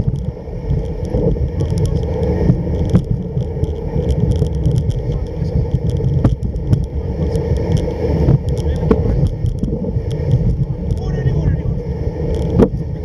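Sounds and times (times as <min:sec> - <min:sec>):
sled runners gliding over snow: 0:00.0 - 0:13.0.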